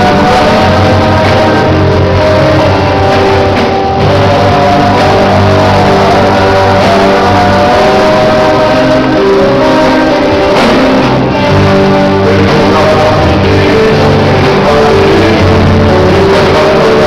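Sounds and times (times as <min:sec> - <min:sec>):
live band with guitar: 0:00.0 - 0:17.0.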